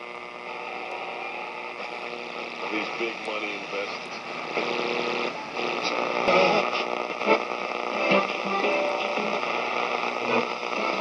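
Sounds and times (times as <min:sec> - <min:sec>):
radio tuning dial turning: 0:00.0 - 0:11.0
tinny music from tube radio: 0:00.0 - 0:11.0.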